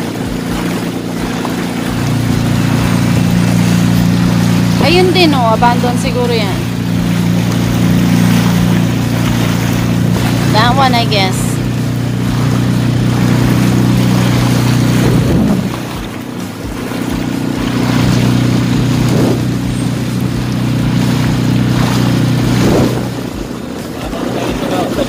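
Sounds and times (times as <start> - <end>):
motorboat engine droning: 0.0 - 25.0
wind and water rushing: 0.0 - 25.0.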